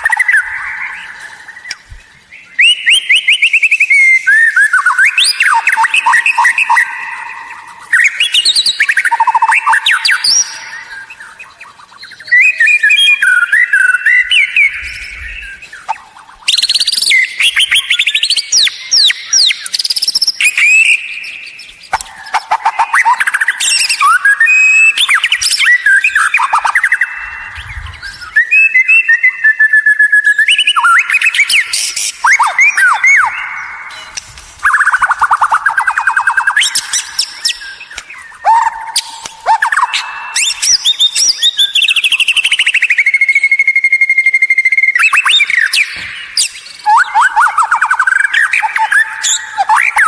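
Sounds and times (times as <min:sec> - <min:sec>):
bird singing whistles and trills: 0:00.0 - 0:50.0.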